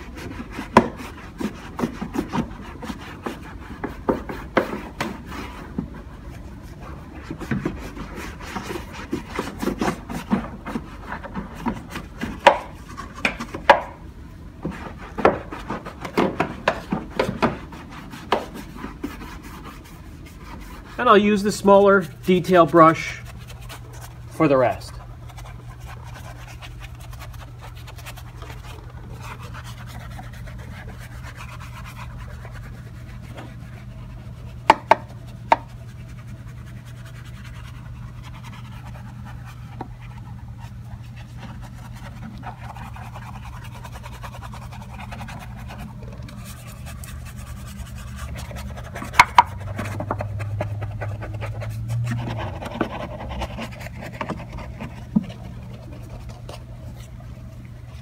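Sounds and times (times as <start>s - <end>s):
brush scrubbing soapy foam: 0.0s - 58.0s
steady low hum: 0.0s - 58.0s.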